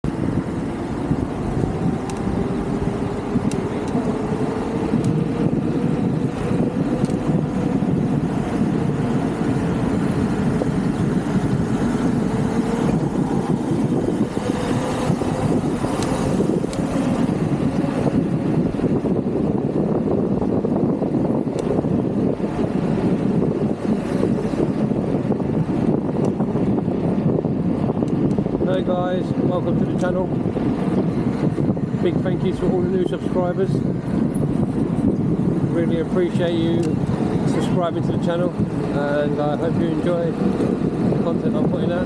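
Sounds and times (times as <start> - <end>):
road and wind noise: 0.0 - 42.0.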